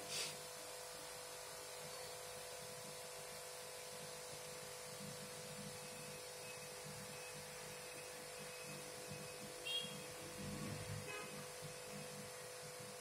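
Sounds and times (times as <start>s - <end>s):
hot air station hum and hiss: 0.0s - 13.0s.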